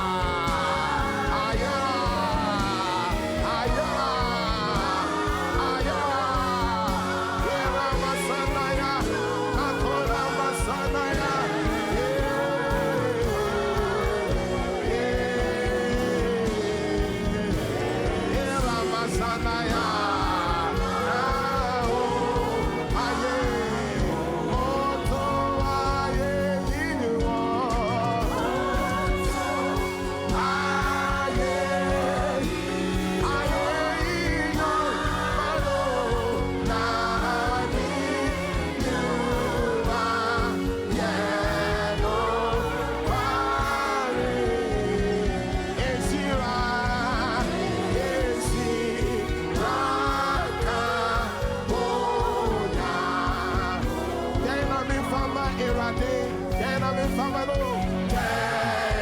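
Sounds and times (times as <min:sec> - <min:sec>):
gospel choir singing: 0:00.0 - 0:59.0
instrumental backing: 0:00.0 - 0:59.0.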